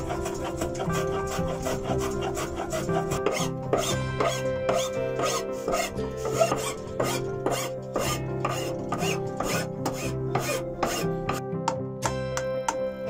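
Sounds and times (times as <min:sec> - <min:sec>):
hand file rasping on wood: 0:00.0 - 0:11.4
soft background music: 0:00.0 - 0:13.0.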